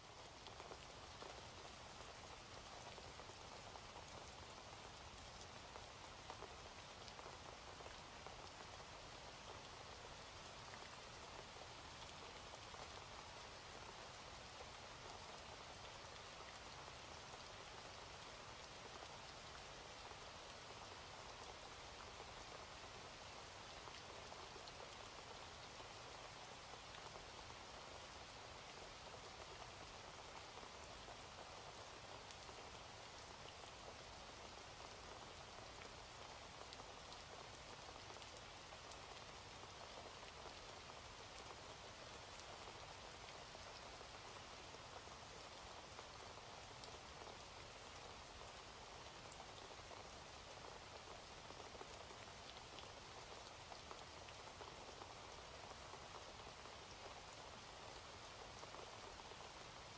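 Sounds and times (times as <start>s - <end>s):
faint steady rain: 0.0s - 59.9s.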